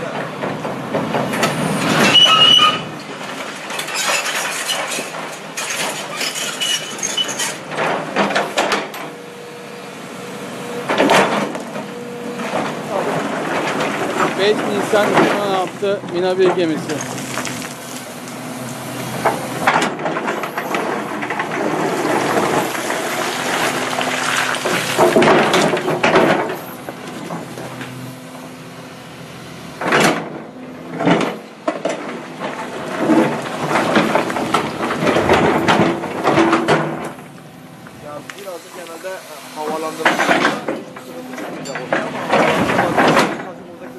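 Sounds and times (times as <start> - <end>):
excavator running: 0.0 - 43.9.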